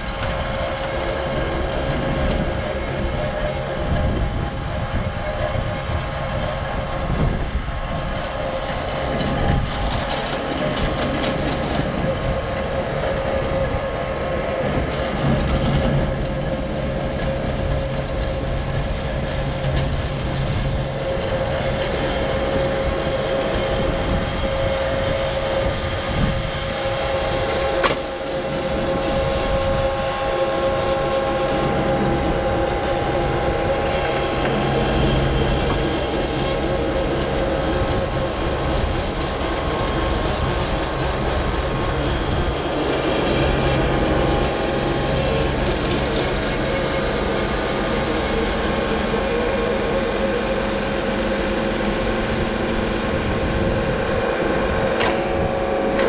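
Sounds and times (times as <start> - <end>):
diesel engine drone with whine: 0.0 - 56.0
power rake churning soil: 0.0 - 56.0.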